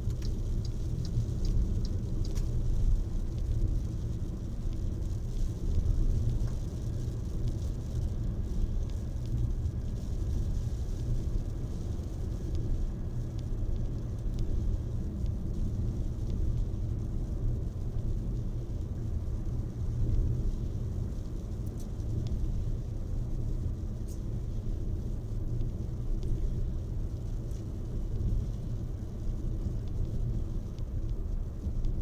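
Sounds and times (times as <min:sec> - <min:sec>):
constant low rumble: 0:00.0 - 0:32.0
steady rain hissing: 0:00.0 - 0:32.0.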